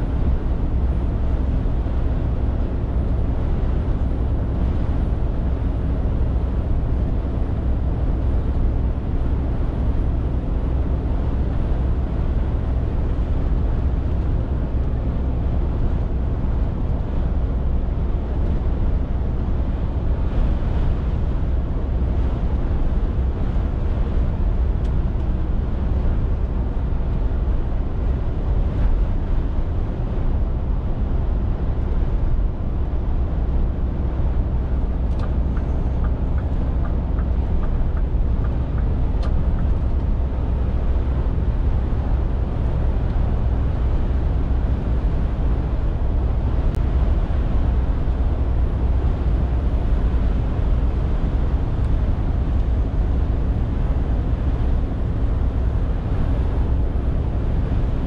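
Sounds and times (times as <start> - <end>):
lorry engine drone: 0.0 - 58.0
road and tyre noise: 0.0 - 58.0.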